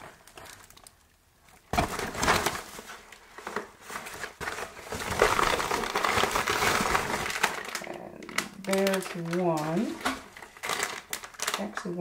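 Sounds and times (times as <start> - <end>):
package crinkling and rustling: 0.0 - 12.0.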